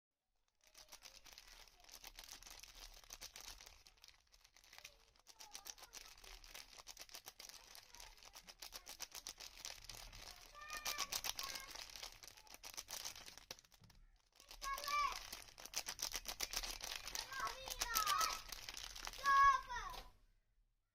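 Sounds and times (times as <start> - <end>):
packaging crinkling and rustling: 0.5 - 20.0.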